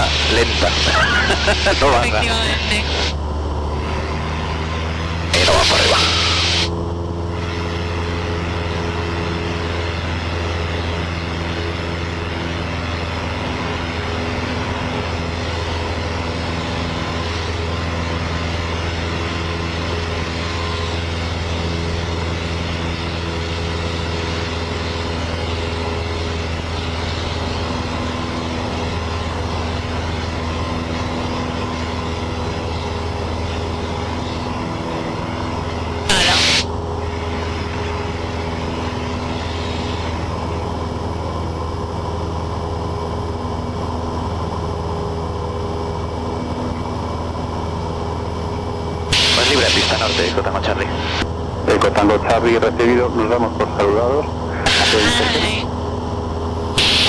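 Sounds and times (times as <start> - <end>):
aircraft engine drone in cockpit: 0.0 - 57.0.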